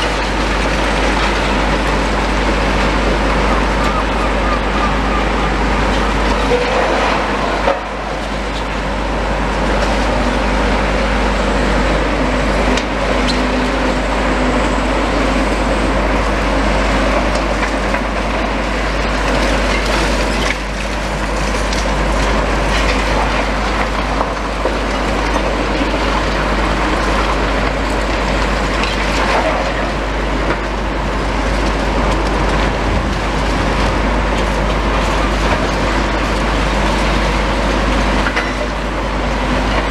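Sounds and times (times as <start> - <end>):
demolition machines engines grinding: 0.0 - 39.9.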